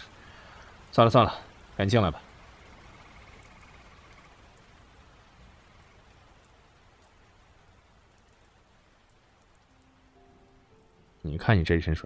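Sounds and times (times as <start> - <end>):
faint rain hiss: 0.0 - 12.0
rain drop ticks: 0.0 - 12.0.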